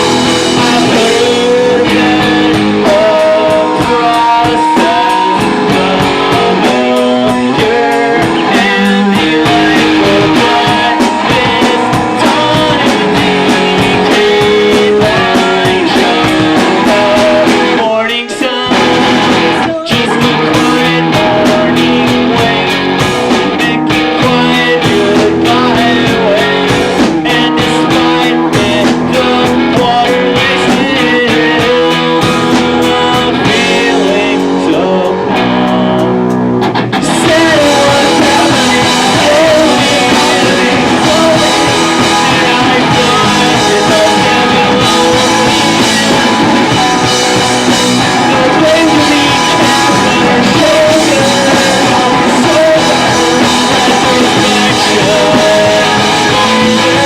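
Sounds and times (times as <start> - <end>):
drums: 0.0 - 57.0
electric guitar: 0.0 - 57.0
person singing: 0.0 - 57.0.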